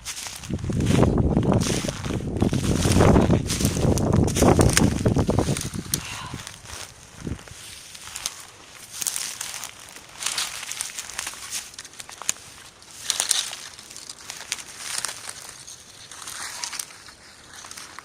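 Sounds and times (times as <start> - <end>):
footsteps crunching in snow: 0.0 - 18.0.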